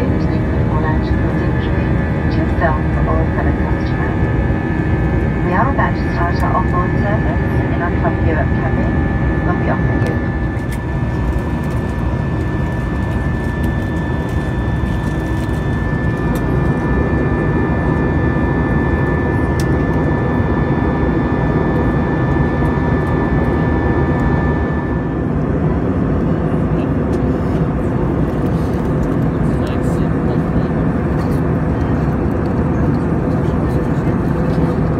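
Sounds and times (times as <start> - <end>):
aircraft cabin engine rush: 0.0 - 34.9.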